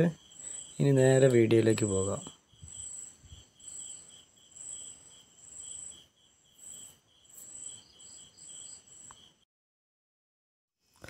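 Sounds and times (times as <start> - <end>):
crickets chirping: 0.0 - 9.4.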